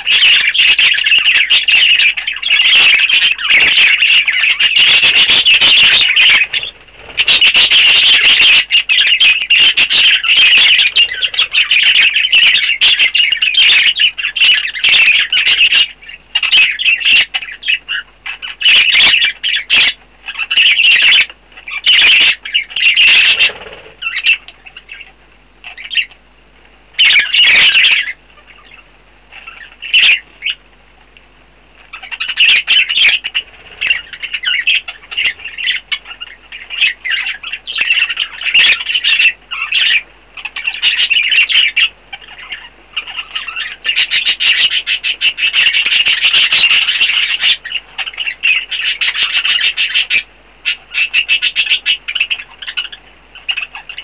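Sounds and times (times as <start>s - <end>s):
budgerigars chattering and squawking: 0.0s - 26.2s, 26.9s - 30.7s, 31.8s - 54.0s.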